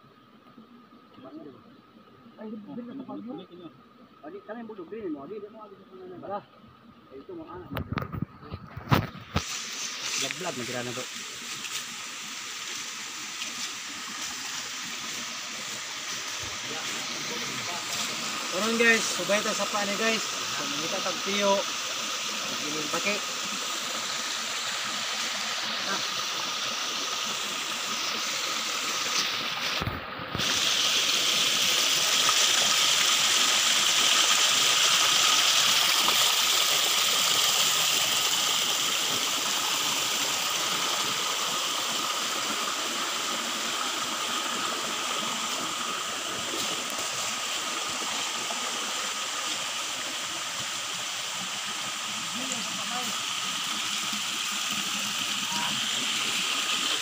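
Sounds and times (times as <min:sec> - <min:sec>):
creek running over rocks: 0:00.0 - 0:57.0.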